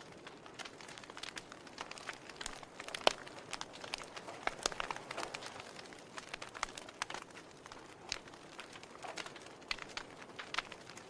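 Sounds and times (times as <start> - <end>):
faint fire hiss: 0.0 - 11.0
wood fire crackling: 0.0 - 11.0.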